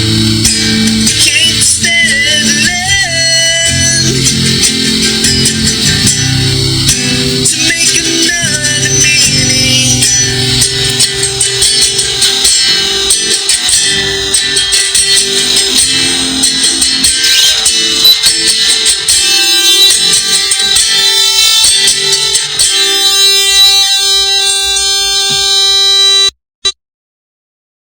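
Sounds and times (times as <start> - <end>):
sharp percussive hits: 0.0 - 25.6
instrumental music with guitar: 0.0 - 26.3.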